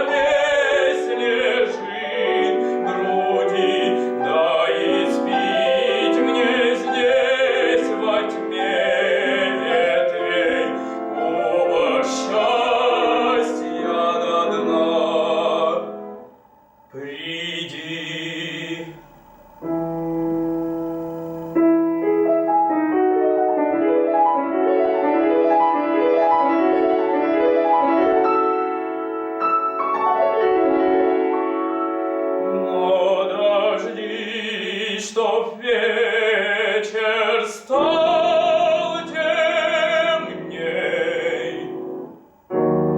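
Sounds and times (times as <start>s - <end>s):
classical singing with piano: 0.0s - 42.9s.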